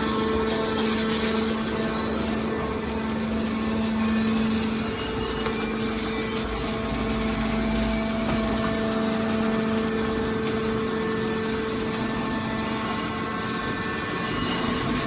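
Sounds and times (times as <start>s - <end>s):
baler motor and pump humming: 0.0s - 15.0s.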